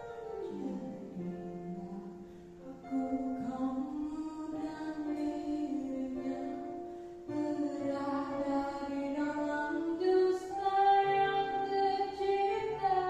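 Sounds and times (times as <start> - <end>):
girl singing into microphone: 0.0 - 13.0.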